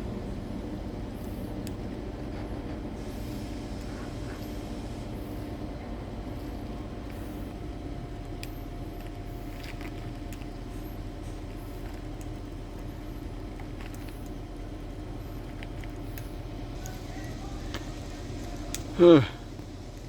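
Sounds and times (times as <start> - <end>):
diesel train engine humming: 0.0 - 20.0
faint steady whine: 0.0 - 20.0.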